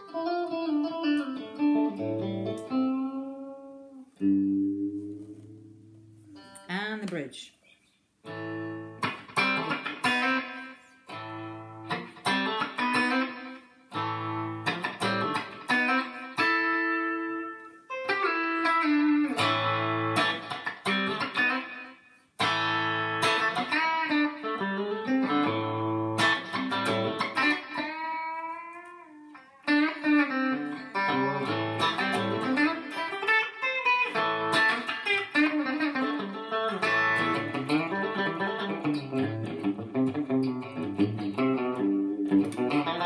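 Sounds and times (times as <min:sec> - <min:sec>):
clean electric guitar: 0:00.0 - 0:06.7, 0:08.2 - 0:43.0.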